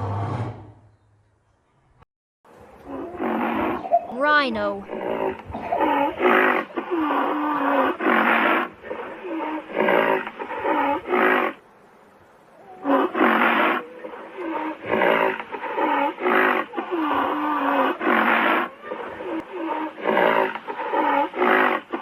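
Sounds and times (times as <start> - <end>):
rhinoceros calling: 2.8 - 11.6, 12.6 - 22.0.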